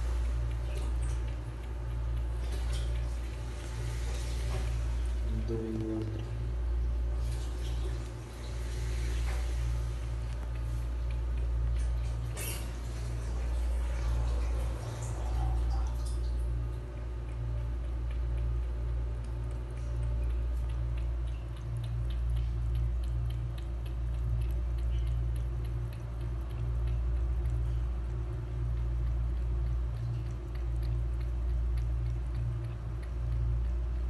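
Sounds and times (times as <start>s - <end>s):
cat lapping water: 0.0s - 34.0s
steady low hum: 0.0s - 34.0s.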